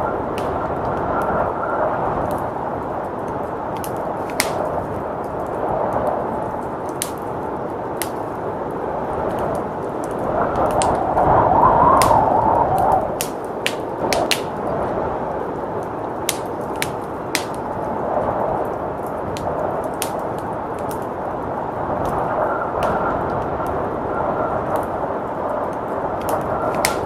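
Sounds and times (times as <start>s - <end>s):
blizzard wind rushing: 0.0s - 27.0s
wood fire crackling and popping: 0.0s - 27.0s.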